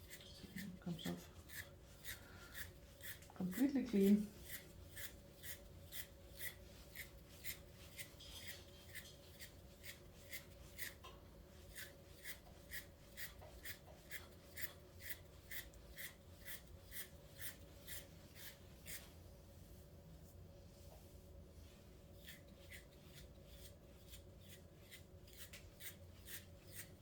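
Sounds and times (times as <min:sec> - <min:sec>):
stripping tool scratching wiry dog coat: 0:00.0 - 0:19.1, 0:22.2 - 0:27.0.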